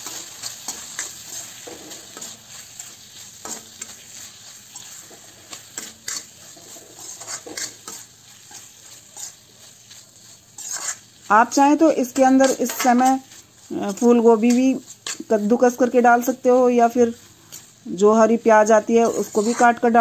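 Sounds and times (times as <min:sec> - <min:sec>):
metal spatula scraping iron pan: 0:00.0 - 0:15.9, 0:18.6 - 0:20.0
low sizzle of frying: 0:00.0 - 0:20.0.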